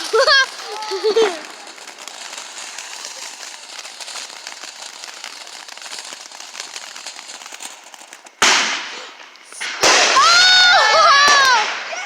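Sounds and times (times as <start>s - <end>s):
firework crackling and fizzing: 0.0s - 12.0s.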